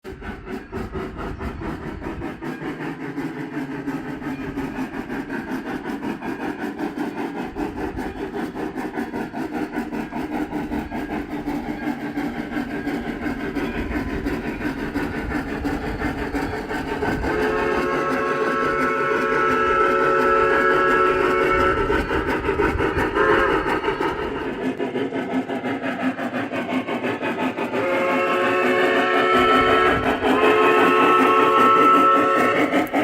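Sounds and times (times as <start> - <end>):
model train steam chuff: 0.0 - 33.0.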